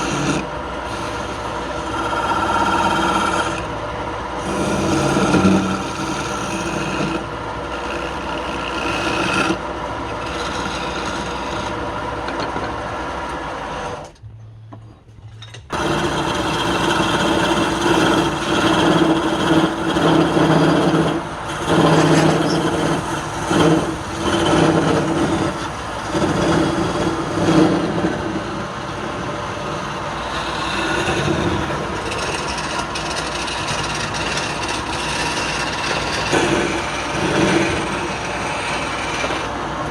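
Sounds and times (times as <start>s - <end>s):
tool scraping spinning wood: 0.0s - 14.2s, 15.7s - 39.9s
wood lathe motor humming: 0.0s - 14.2s, 15.7s - 39.9s.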